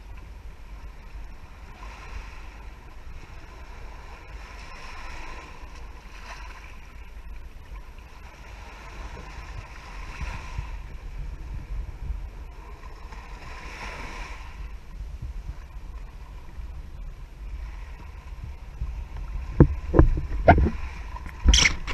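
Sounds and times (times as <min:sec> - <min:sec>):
sea waves washing on sand: 0:00.0 - 0:21.9
wind rumble on microphone: 0:00.0 - 0:21.9.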